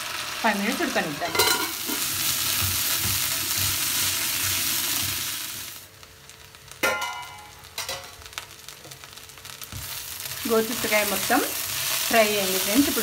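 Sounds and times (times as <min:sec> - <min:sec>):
beans sizzling in oil: 0:00.0 - 0:13.0.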